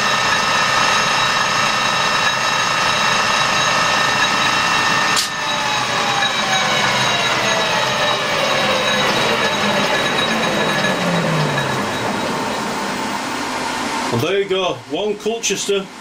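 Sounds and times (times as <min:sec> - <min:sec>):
lathe gear whine: 0:00.0 - 0:15.2.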